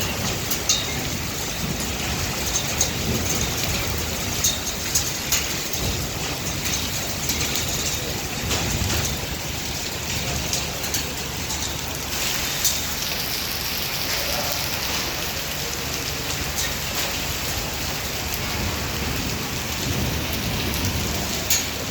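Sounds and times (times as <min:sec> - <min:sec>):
hail and rain pouring: 0:00.0 - 0:21.9
hailstones ticking: 0:00.0 - 0:21.9.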